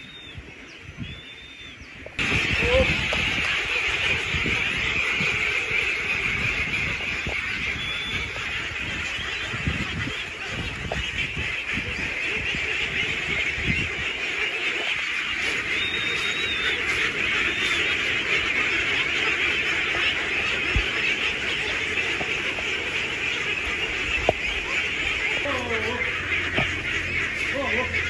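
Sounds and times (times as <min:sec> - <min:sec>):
flock of ducks quacking: 0:00.0 - 0:28.0.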